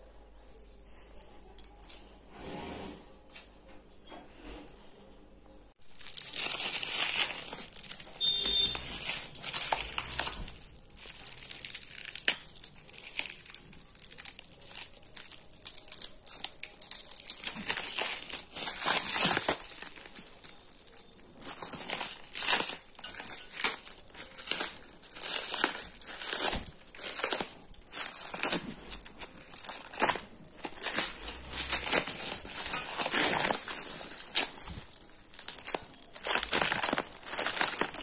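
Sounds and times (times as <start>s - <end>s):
plastic and foil crinkling: 5.8s - 38.0s.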